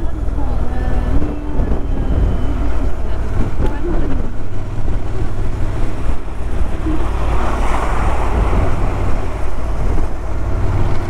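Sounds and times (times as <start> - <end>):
low steady rumble: 0.0 - 11.0
wind rushing over microphone: 0.0 - 11.0.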